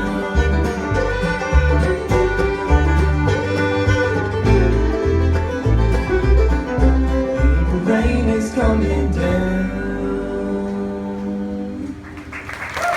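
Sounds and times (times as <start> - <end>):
bluegrass band playing: 0.0 - 11.7.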